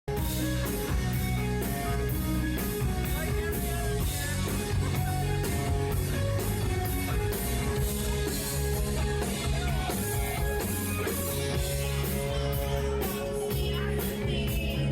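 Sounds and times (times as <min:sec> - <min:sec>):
drum kit beat: 0:00.1 - 0:14.9
electric guitar: 0:00.1 - 0:14.9.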